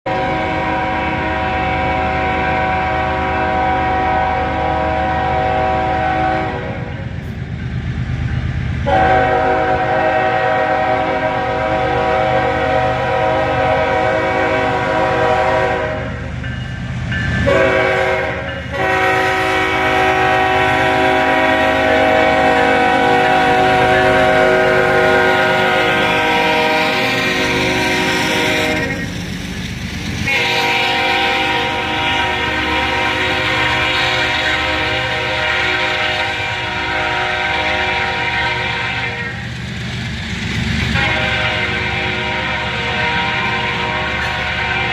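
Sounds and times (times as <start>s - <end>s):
locomotive air horn: 0.0s - 7.0s, 8.8s - 16.3s, 17.4s - 29.2s, 30.2s - 39.4s, 40.9s - 44.9s
train engine rumble: 0.0s - 44.9s.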